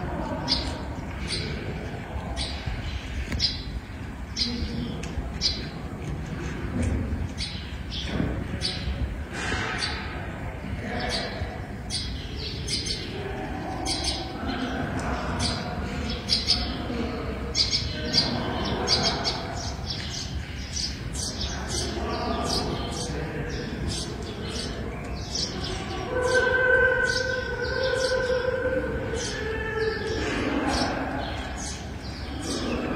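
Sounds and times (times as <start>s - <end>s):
murmur of voices: 0.0s - 32.9s.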